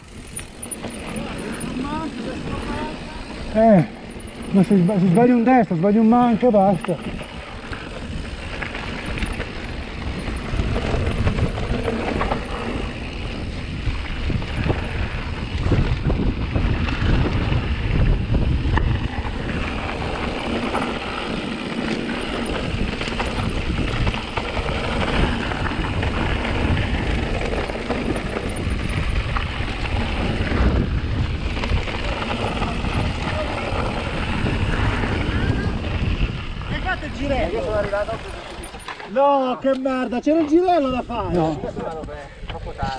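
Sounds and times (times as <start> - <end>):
wind buffeting microphone: 0.0 - 38.6
bike rattling over bumps: 0.0 - 42.9.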